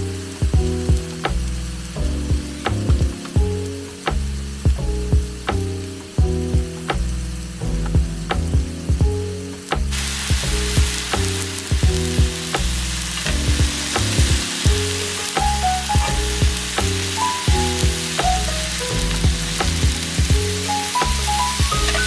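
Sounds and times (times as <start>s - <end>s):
background music with stepping melody: 0.0s - 22.0s
food sizzling in a pan: 0.0s - 22.0s.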